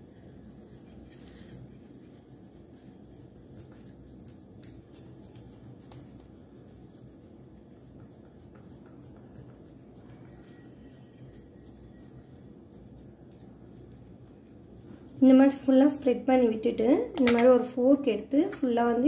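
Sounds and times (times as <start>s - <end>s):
hands patting dough: 0.0s - 15.5s
low background hum: 0.0s - 19.0s.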